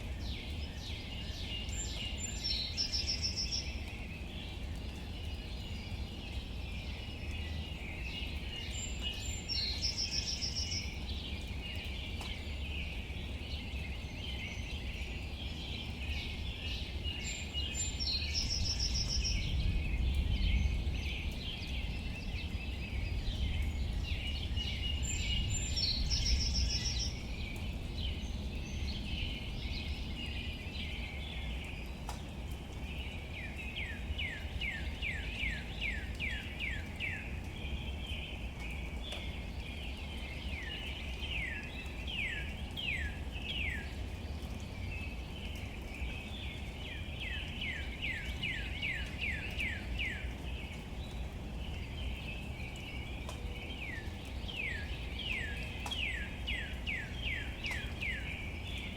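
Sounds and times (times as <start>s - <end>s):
birds chirping: 0.0s - 58.9s
rain on leaves: 0.0s - 58.9s.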